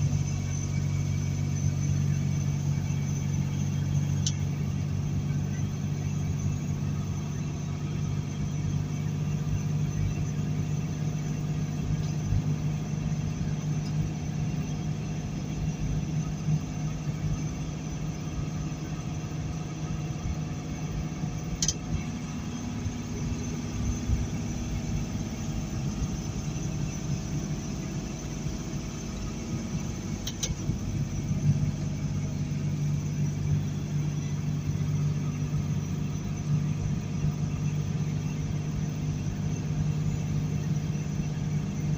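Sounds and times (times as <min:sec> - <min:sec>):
road and tyre noise: 0:00.0 - 0:41.9
truck engine drone: 0:00.0 - 0:41.9.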